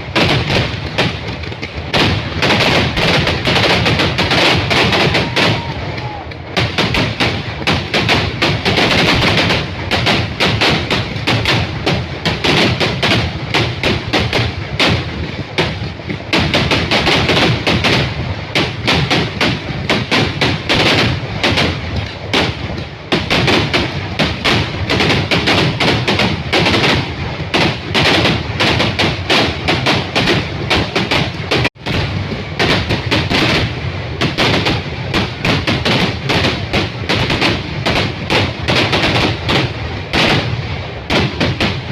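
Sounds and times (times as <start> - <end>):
firecracker barrage: 0.0 - 41.9.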